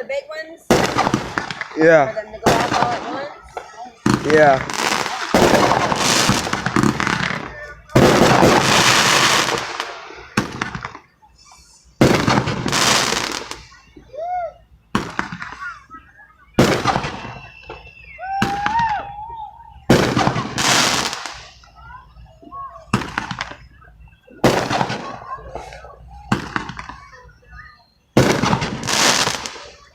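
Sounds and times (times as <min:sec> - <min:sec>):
fireworks bangs with crackle: 0:00.3 - 0:14.1, 0:14.7 - 0:29.9.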